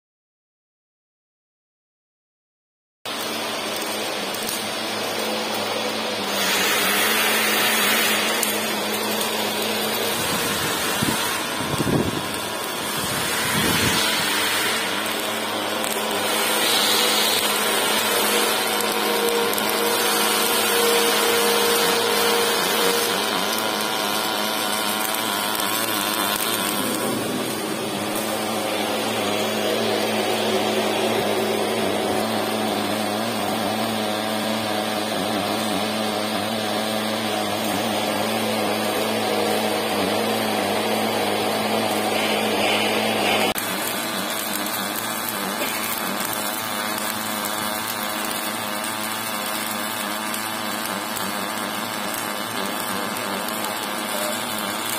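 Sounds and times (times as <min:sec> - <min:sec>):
welding arc hissing: 0:03.1 - 0:54.9
welding machine hum: 0:03.1 - 0:54.9.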